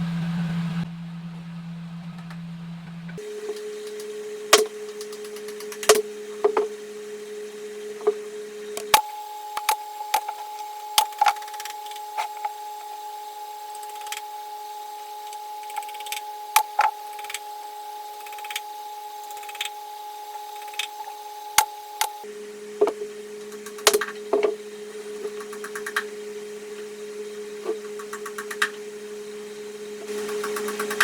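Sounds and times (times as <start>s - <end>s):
power tool motor whining: 3.2s - 31.0s.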